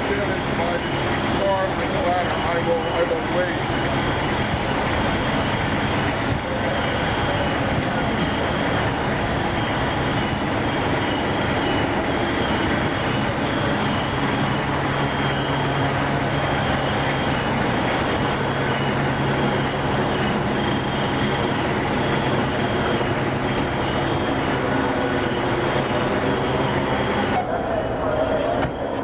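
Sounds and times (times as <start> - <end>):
fire truck diesel engines droning: 0.0 - 29.0.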